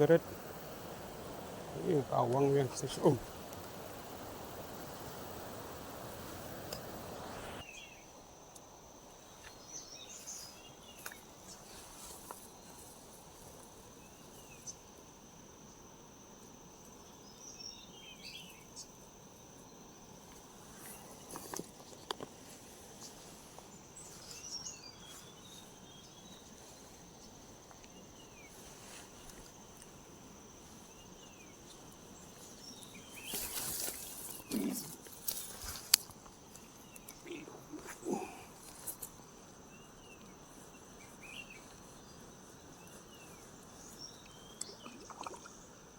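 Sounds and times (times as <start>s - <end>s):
rustle: 0.0s - 44.9s
insects droning: 0.0s - 45.9s.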